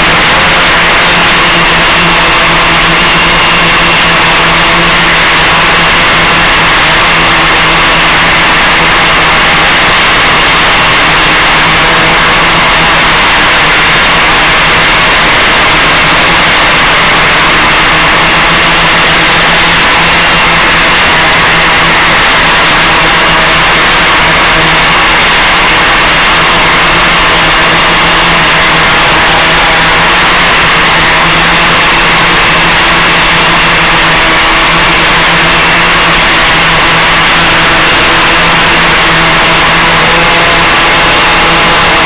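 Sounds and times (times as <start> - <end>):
loud steady hiss: 0.0 - 42.0
low hum: 0.0 - 42.0.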